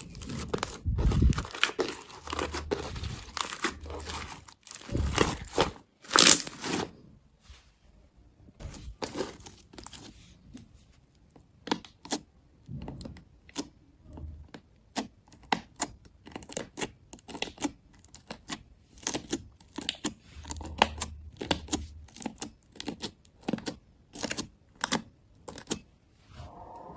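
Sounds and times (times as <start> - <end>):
slime squishing: 0.0 - 7.3, 8.5 - 26.9.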